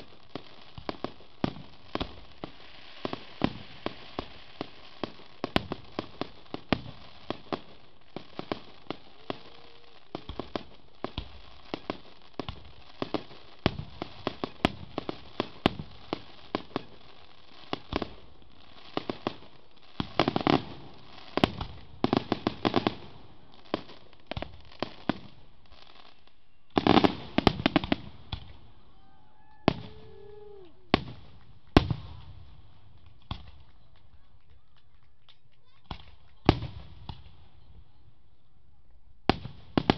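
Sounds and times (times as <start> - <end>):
fireworks bursting: 0.0 - 38.1, 39.2 - 39.9.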